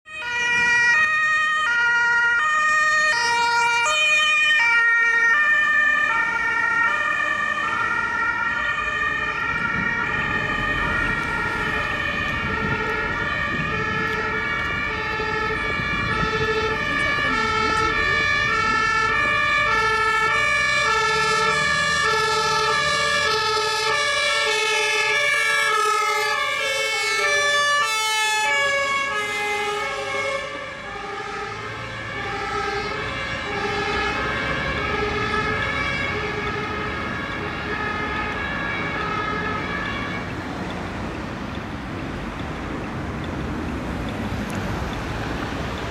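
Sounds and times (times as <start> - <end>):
two-tone emergency sirens: 0.1 - 45.9
vehicle engine and tyre rumble: 0.1 - 45.9.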